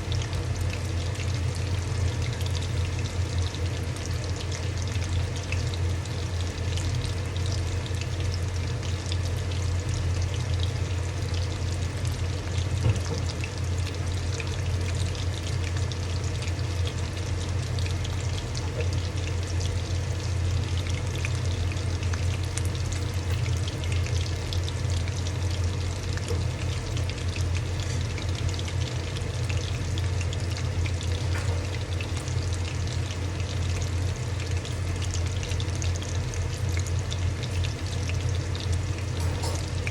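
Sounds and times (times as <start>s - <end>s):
food deep-frying in oil: 0.0s - 39.9s
low steady hum: 0.0s - 39.9s.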